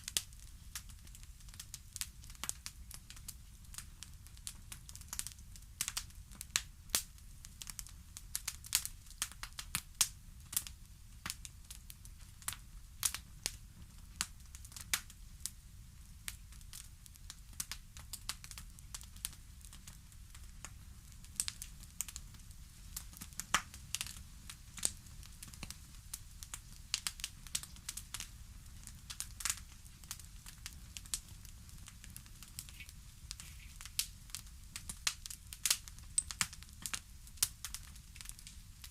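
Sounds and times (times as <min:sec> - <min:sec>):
wood fire popping and snapping: 0:00.0 - 0:38.9.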